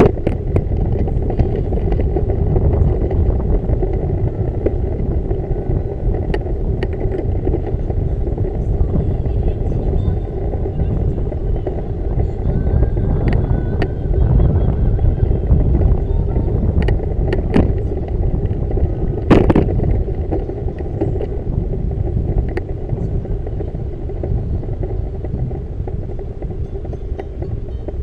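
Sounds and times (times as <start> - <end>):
bicycle ride rumble: 0.0 - 28.0.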